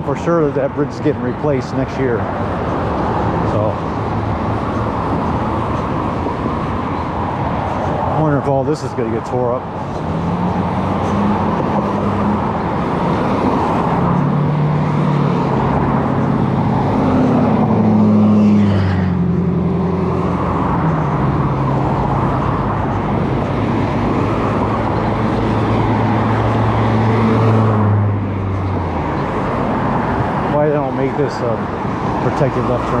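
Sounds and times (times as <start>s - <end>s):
car engine hum: 0.0s - 33.0s
tyre noise on road: 0.0s - 33.0s.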